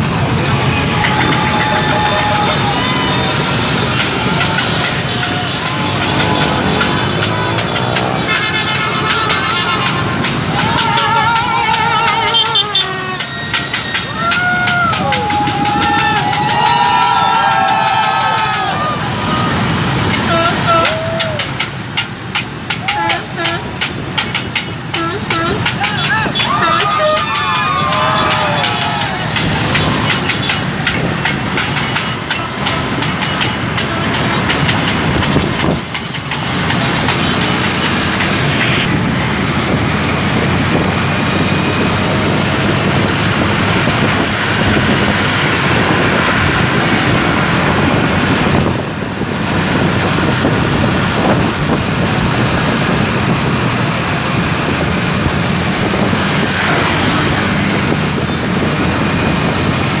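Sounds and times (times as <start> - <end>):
motorbike engines running: 0.0 - 60.0.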